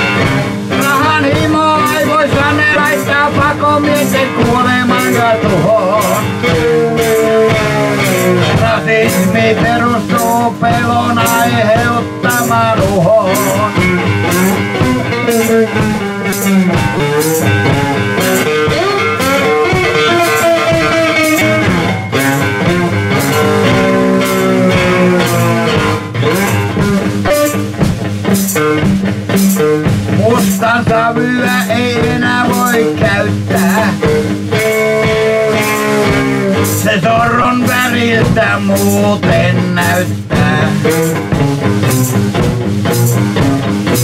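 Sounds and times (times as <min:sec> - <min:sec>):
drum beat: 0:00.0 - 0:44.0
electric guitar: 0:00.0 - 0:44.0.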